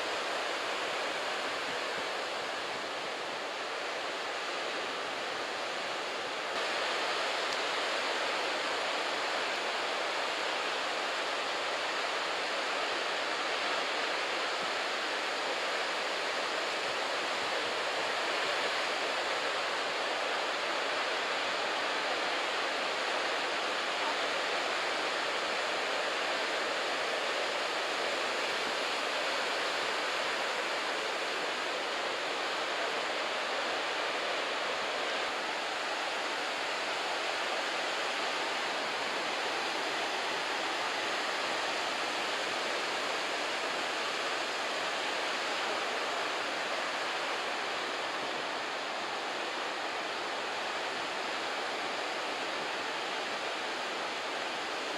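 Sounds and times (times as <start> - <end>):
surf roaring along a beach: 0.0 - 54.9.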